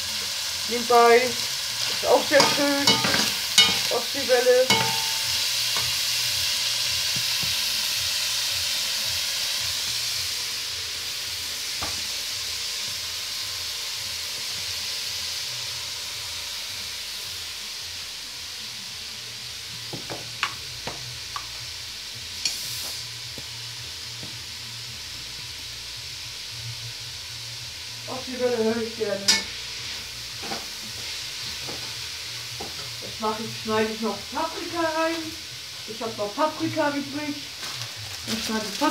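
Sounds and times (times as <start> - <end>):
meat and onions sizzling in pan: 0.0 - 38.9.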